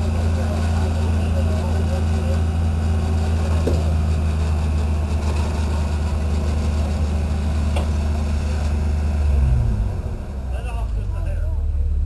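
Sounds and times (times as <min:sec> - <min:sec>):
buggy engine droning: 0:00.0 - 0:12.0.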